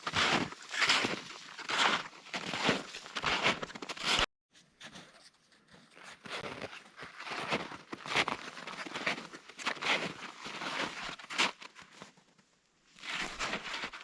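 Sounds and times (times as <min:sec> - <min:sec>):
footsteps crunching through snow: 0:00.0 - 0:04.3, 0:05.9 - 0:12.2, 0:13.0 - 0:14.0.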